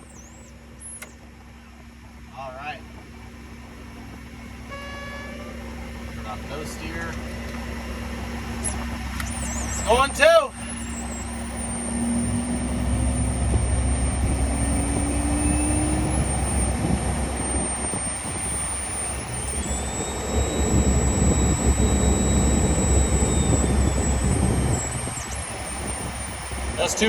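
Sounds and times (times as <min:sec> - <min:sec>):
jet engine rumble with high whine: 0:00.0 - 0:27.0.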